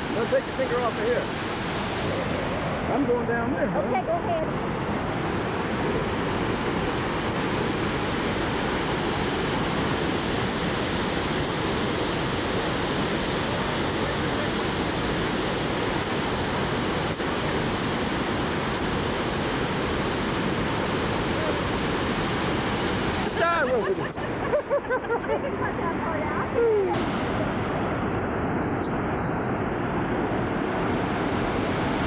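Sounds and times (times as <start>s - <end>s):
floodwater roaring: 0.0s - 32.0s.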